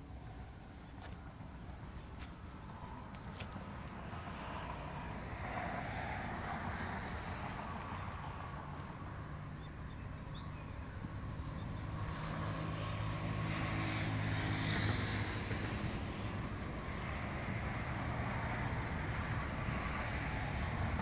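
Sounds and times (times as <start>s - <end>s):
locomotive diesel engines droning: 0.0s - 21.0s
street traffic: 0.0s - 21.0s.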